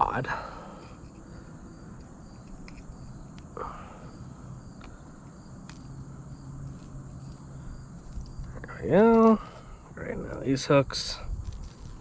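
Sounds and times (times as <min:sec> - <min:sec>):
crickets and insects chirping: 0:00.0 - 0:12.0.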